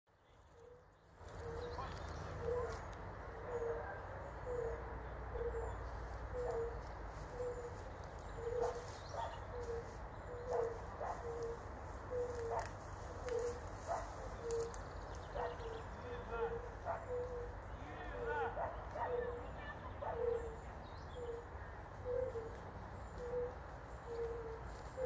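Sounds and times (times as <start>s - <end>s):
chorus of soft hooting calls: 0.5s - 25.0s.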